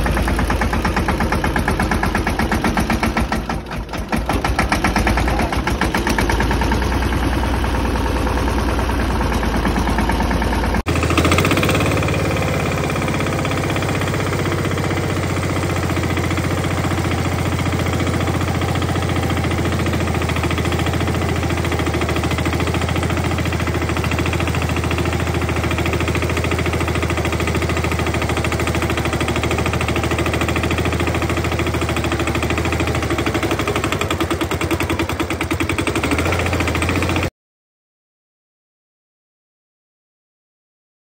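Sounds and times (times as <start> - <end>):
tractor diesel engine chugging: 0.0 - 37.3.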